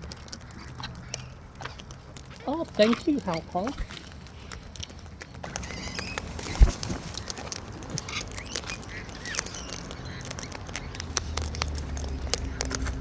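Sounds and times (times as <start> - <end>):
small clicks and taps: 0.0 - 13.0
birds squawking: 0.2 - 4.6, 5.2 - 13.0.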